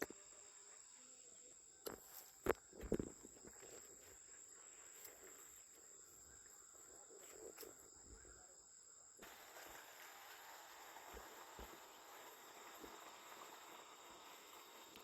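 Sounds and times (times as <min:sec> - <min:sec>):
insects chirring: 0:00.0 - 0:15.0
soft hiss: 0:00.0 - 0:15.0.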